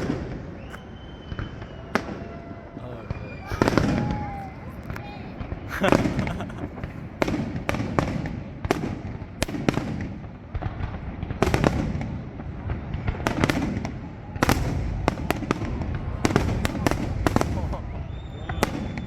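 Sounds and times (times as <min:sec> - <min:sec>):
fireworks bangs and cracks: 0:00.0 - 0:19.0.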